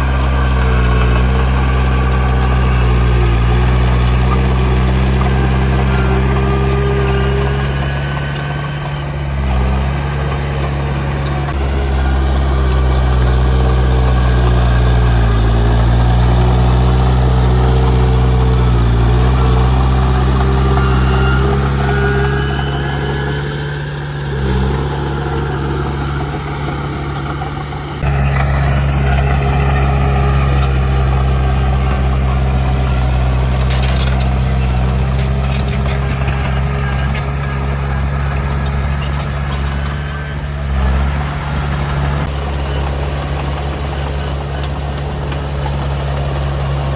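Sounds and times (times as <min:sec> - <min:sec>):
heavy machinery diesel engine: 0:00.0 - 0:46.9.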